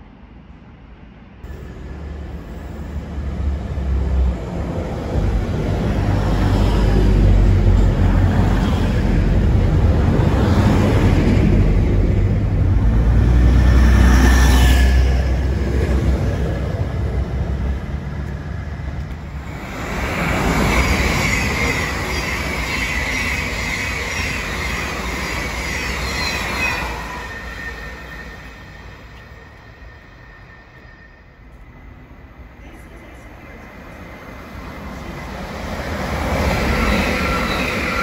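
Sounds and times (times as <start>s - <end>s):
electric train humming: 1.4s - 38.0s
train wheels rumbling on rails: 1.4s - 38.0s.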